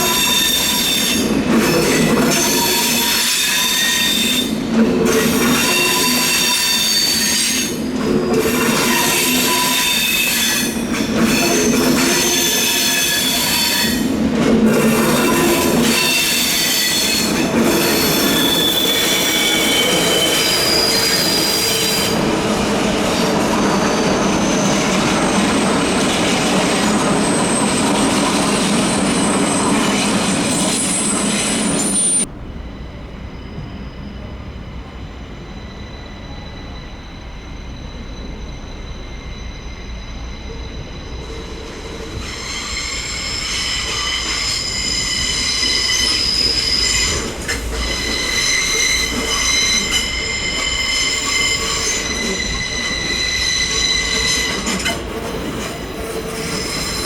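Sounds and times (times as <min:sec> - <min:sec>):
train rumble: 0:00.0 - 0:57.0
train wheels squealing on rails: 0:00.0 - 0:57.0.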